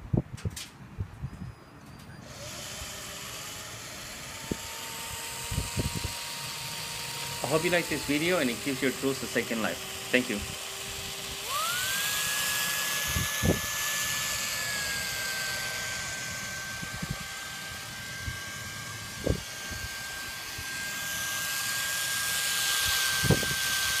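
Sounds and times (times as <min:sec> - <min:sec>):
drill motor whining: 0:01.3 - 0:24.0.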